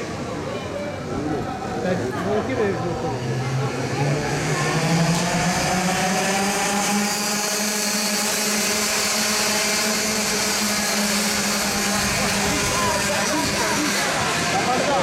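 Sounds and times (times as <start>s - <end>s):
kart engines buzzing: 0.0s - 15.0s.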